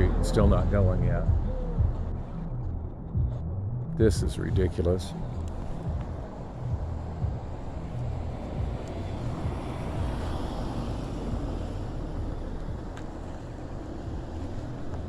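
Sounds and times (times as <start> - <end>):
street traffic: 0.0 - 15.0
vehicle passing: 0.0 - 15.0
wind on microphone: 0.0 - 15.0.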